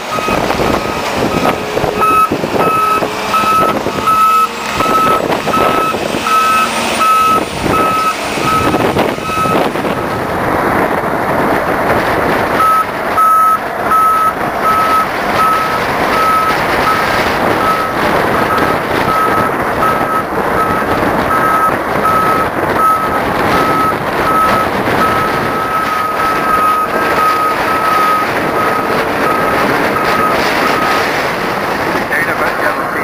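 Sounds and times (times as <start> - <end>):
snow groomer engine running: 0.0 - 33.0
reversing alarm beeping: 0.1 - 10.2, 12.6 - 31.1.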